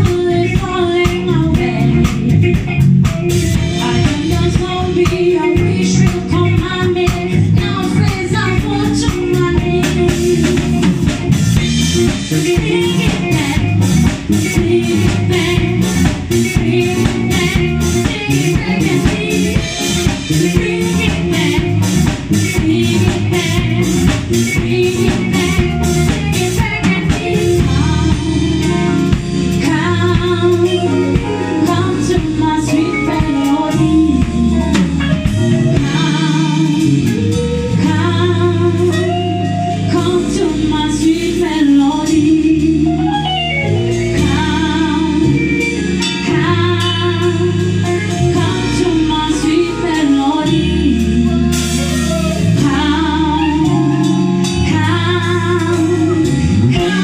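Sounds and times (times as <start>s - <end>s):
woman singing: 0.0s - 2.8s, 3.5s - 57.0s
live band playing: 0.0s - 57.0s.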